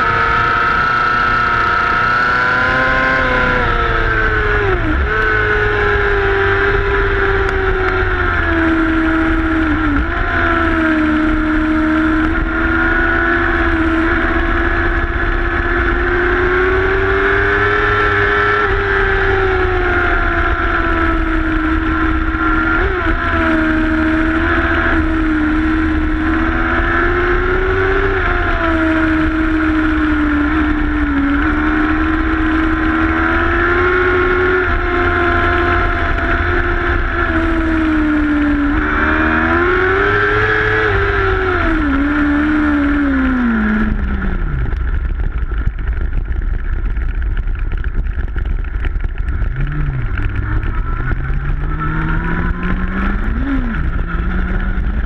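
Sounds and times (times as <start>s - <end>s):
motorcycle engine revving high: 0.0s - 55.0s
wind rumble on microphone: 0.0s - 55.0s.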